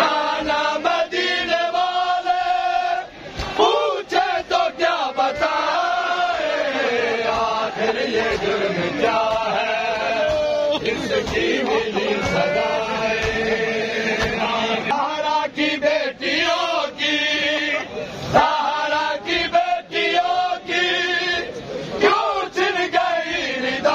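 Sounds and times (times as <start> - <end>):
crowd of men chanting: 0.0 - 23.9.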